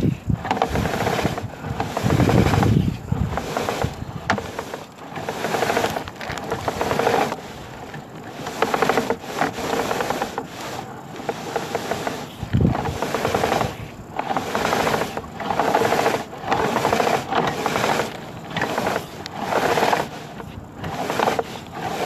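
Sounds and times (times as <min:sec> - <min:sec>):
inspection cable scraping in pipe: 0:00.0 - 0:22.0.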